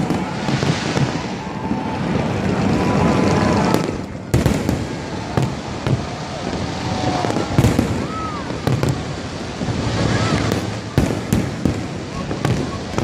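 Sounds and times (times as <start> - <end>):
fireworks crackling and bursting: 0.0 - 13.0
sharp firework bangs: 0.0 - 13.0.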